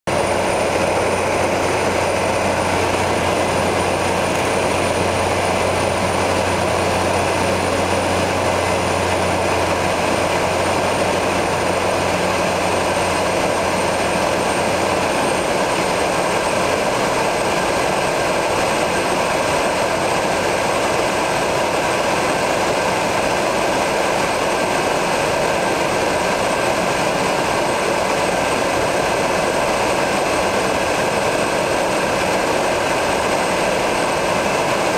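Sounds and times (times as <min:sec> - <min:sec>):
propeller engine drone: 0:00.0 - 0:34.9
turbine whine: 0:00.1 - 0:34.9.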